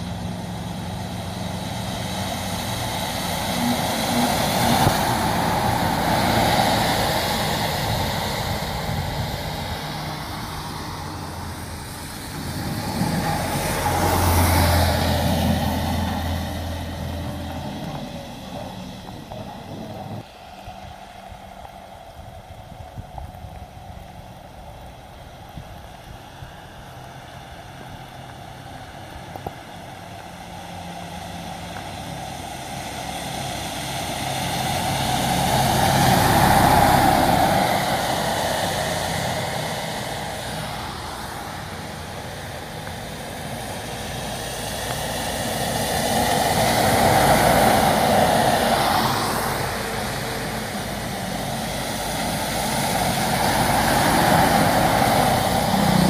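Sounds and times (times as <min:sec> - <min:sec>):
tyre hiss on wet road: 0:00.0 - 0:56.0
vehicles passing on wet road: 0:00.0 - 0:56.0.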